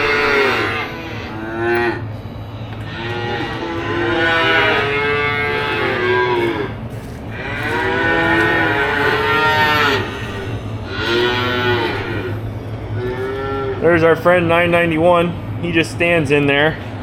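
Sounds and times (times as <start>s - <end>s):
calves bawling: 0.0s - 14.4s
steady low hum: 0.0s - 17.0s.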